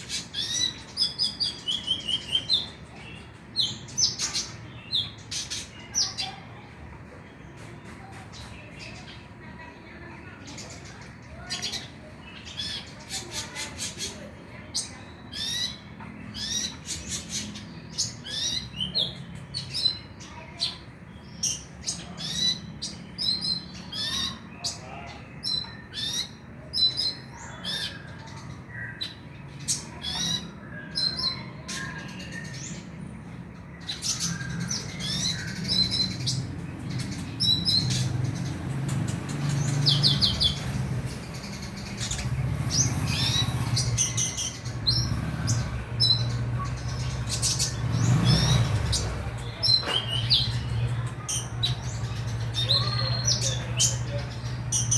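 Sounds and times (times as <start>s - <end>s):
sunbird chirping and twittering: 0.0s - 54.9s.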